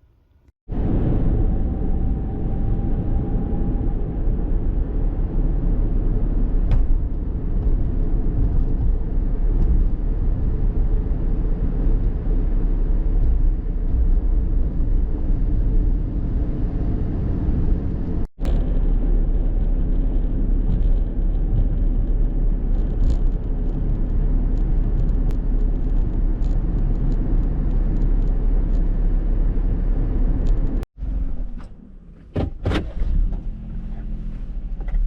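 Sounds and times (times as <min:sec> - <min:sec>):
strong wind buffeting microphone: 0:00.7 - 0:30.9.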